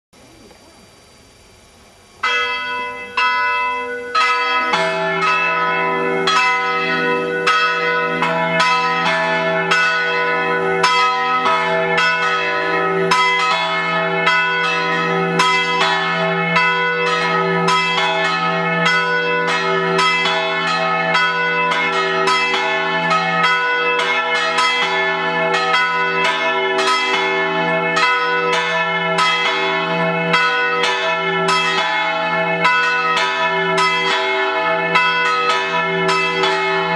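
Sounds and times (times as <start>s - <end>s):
church bells pealing: 2.2s - 36.9s
deeper bell ringing: 2.2s - 36.9s.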